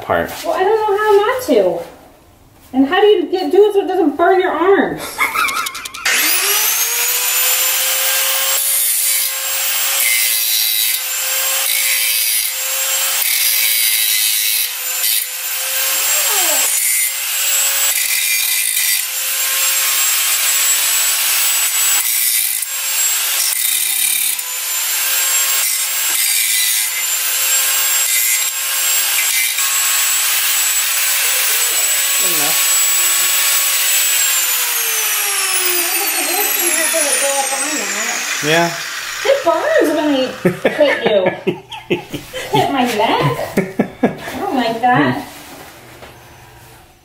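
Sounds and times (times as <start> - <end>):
angle grinder grinding: 5.0 - 45.0.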